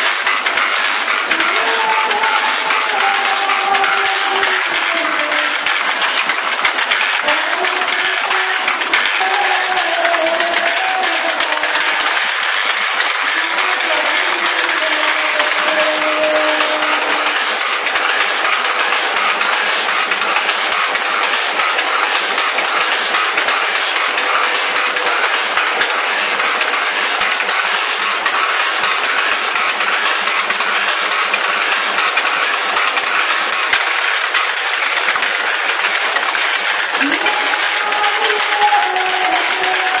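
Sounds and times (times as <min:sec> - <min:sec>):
relays switching: 0:00.0 - 0:40.0
rotating drum contacts chattering: 0:00.0 - 0:40.0.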